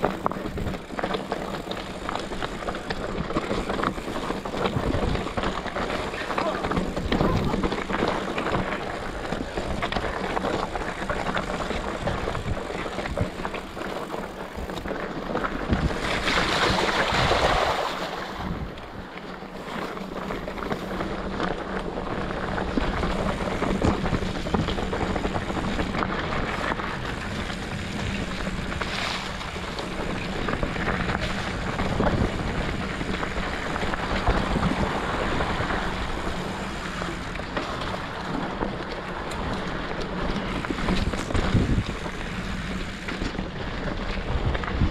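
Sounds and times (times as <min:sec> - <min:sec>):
wind rushing over microphone: 0:03.1 - 0:19.2, 0:22.3 - 0:38.8, 0:39.6 - 0:44.9.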